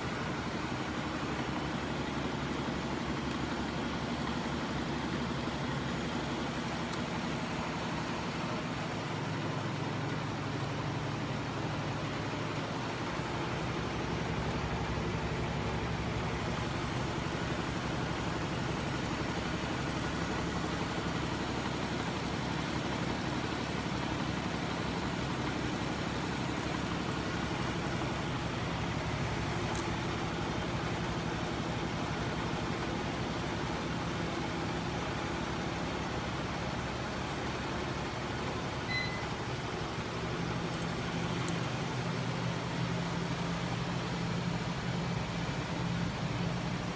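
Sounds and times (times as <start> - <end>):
spinning flywheel machine humming: 0.0 - 46.9.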